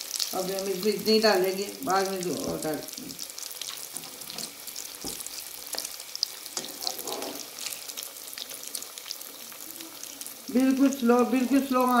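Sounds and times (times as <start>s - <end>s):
food deep-frying in oil: 0.0s - 12.0s
spatula moving food in oil: 1.8s - 12.0s.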